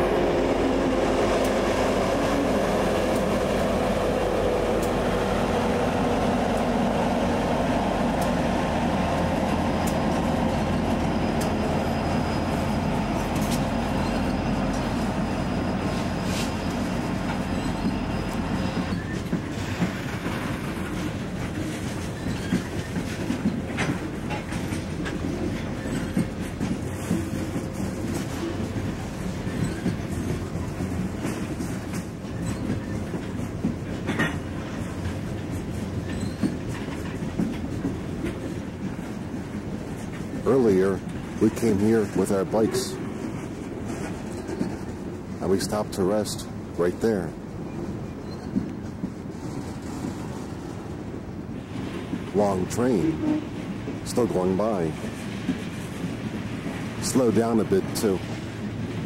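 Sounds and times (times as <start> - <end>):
locomotive engines humming: 0.0 - 59.0
wheels clattering over rail joints: 0.8 - 59.0.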